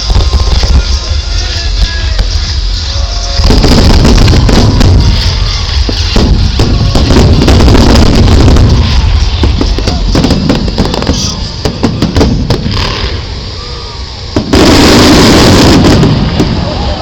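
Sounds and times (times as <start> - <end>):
fireworks bangs and crackles: 0.0 - 17.0
loud rush of noise: 0.0 - 17.0
low rumble: 0.0 - 17.0.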